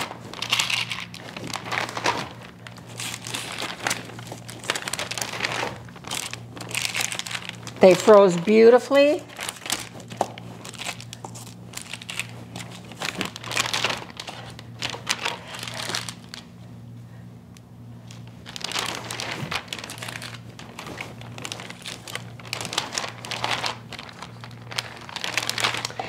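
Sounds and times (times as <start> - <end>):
plastic freezer bag crinkling: 0.0 - 16.6, 18.0 - 26.0
low steady hum: 0.0 - 26.0.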